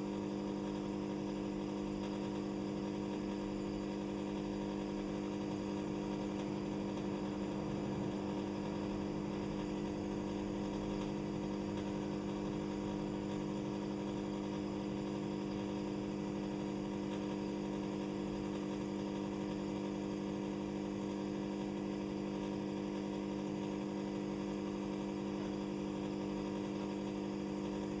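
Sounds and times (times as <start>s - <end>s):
electrical hum with low tones: 0.0s - 28.0s.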